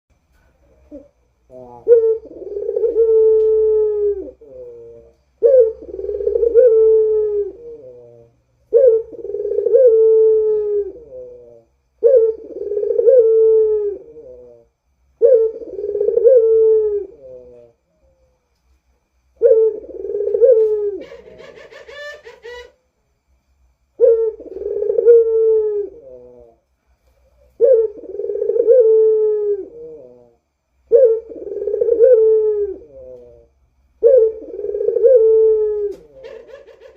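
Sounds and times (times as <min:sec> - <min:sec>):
dove moaning coo: 0:00.6 - 0:18.4, 0:19.4 - 0:22.8, 0:24.0 - 0:26.6, 0:27.2 - 0:36.9.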